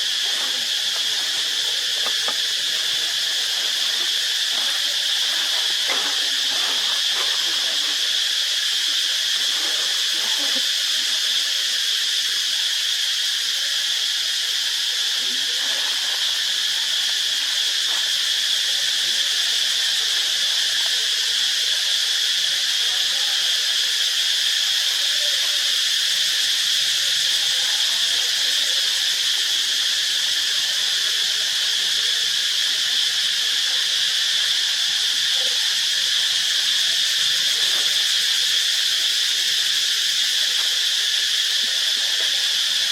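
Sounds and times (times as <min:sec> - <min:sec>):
insect chorus buzzing: 0:00.0 - 0:42.9.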